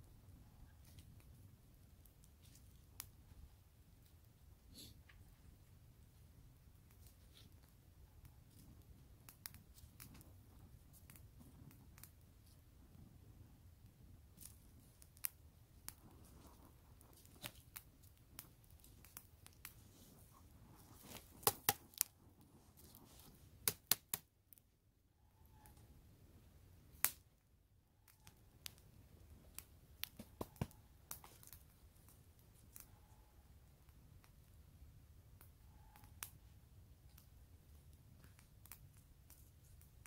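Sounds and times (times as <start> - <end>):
campfire crackling and popping: 0.0 - 4.4, 6.5 - 24.7, 26.9 - 27.4, 28.0 - 32.9, 33.6 - 40.0
faint steady hiss: 0.0 - 40.0.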